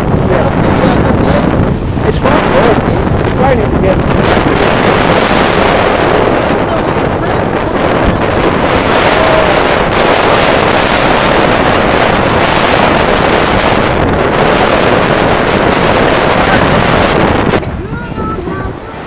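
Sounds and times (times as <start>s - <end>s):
water rushing past hull: 0.0s - 19.0s
wind buffeting microphone: 0.0s - 19.0s.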